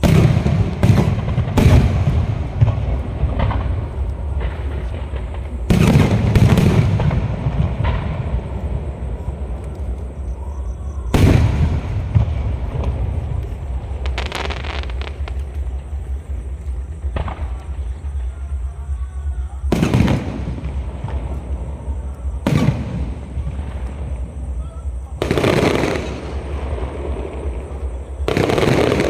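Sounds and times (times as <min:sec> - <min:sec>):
low rumble: 0:00.0 - 0:25.3
crackling pops: 0:00.0 - 0:29.0
firework booms: 0:00.0 - 0:29.0.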